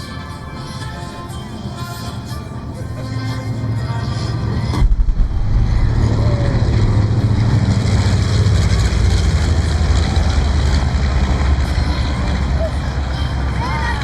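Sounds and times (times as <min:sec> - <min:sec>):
radial engine aircraft rumble: 0:00.0 - 0:14.0.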